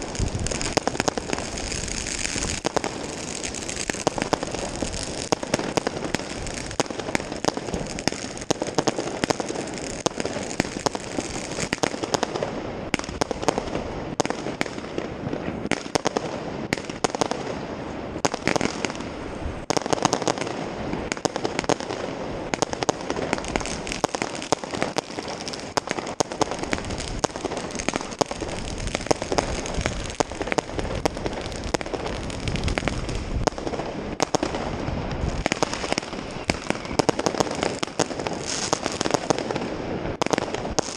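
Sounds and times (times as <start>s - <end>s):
fireworks and firecrackers crackling: 0.0s - 40.9s.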